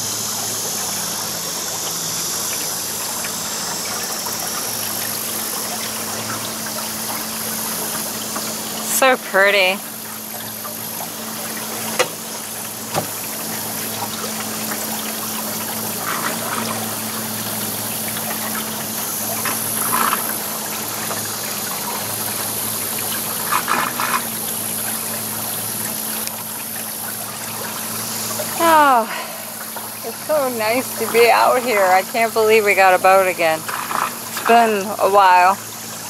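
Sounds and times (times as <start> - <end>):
boat motor humming: 0.0 - 36.0
water splashing along hull: 0.0 - 36.0.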